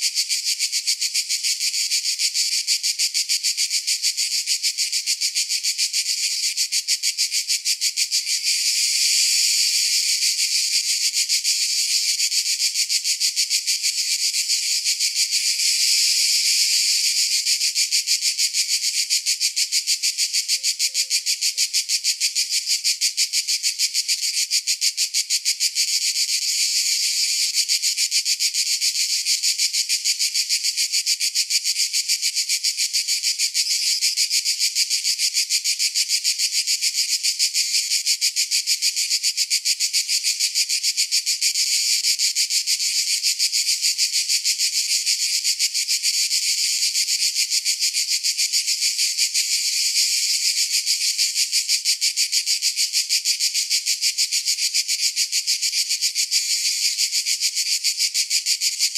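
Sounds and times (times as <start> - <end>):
cicadas buzzing: 0.0 - 58.9.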